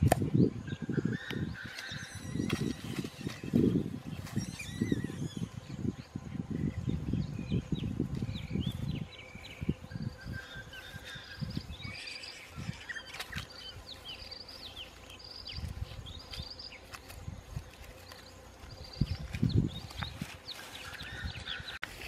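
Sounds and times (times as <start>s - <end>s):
small birds chirping: 0.0s - 22.0s
footsteps in grass: 1.3s - 22.0s.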